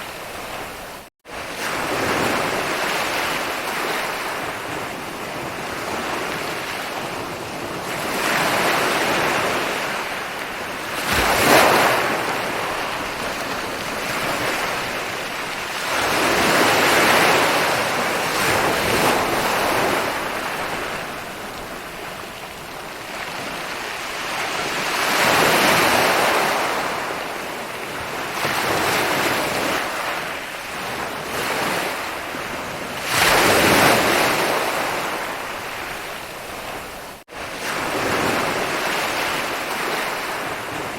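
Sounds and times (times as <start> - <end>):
waves crashing sharply: 0.0 - 21.9, 23.1 - 40.9
ocean waves breaking on beach: 0.0 - 40.9.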